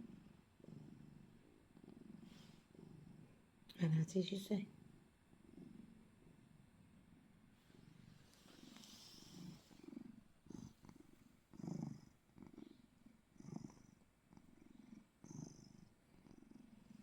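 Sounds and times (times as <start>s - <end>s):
cat purring faintly: 0.0s - 17.0s.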